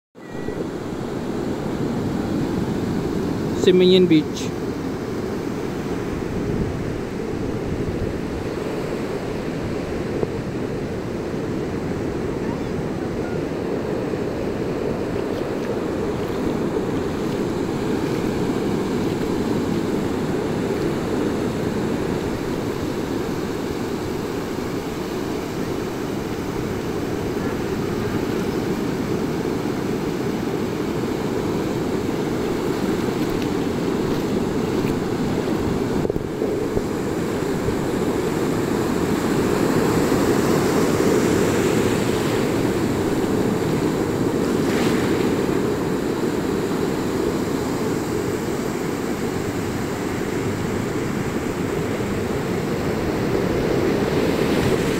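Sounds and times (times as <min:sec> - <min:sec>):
surf breaking on beach: 0:00.5 - 0:54.9
wind buffeting microphone: 0:04.6 - 0:54.9.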